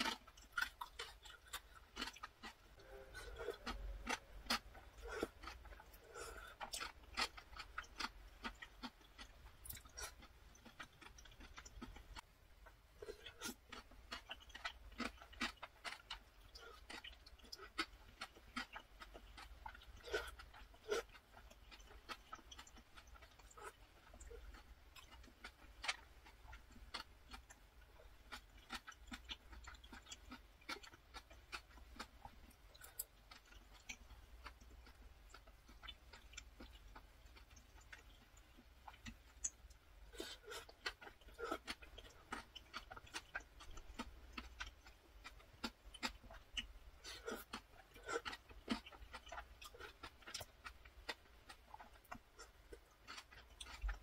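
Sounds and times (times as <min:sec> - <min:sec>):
chewing noodles: 0:00.0 - 0:54.0.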